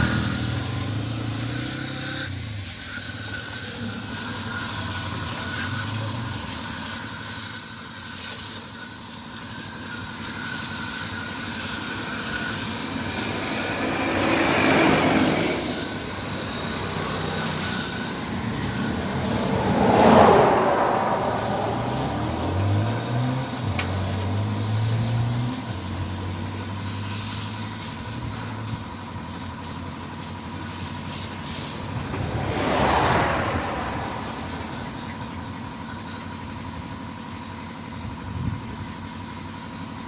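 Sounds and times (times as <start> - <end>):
spray gun hissing: 0.0 - 36.9.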